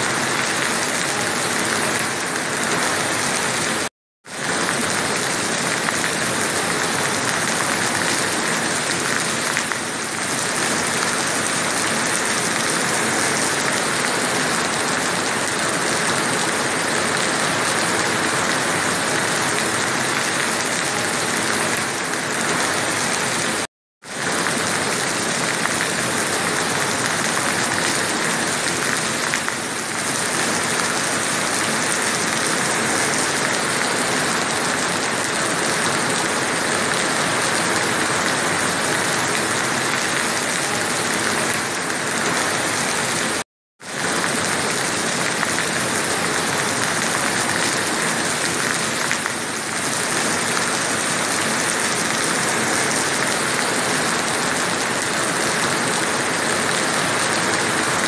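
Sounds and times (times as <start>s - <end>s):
steady rain pouring: 0.0s - 58.0s.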